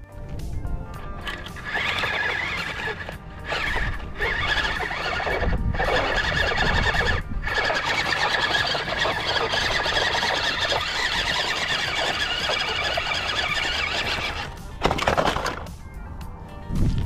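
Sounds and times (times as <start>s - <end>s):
electric motor and gears whining: 0.0s - 15.8s.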